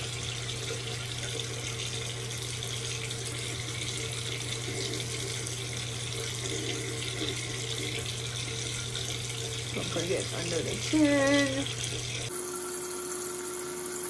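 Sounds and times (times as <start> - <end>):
tap water running into sink: 0.0 - 14.0.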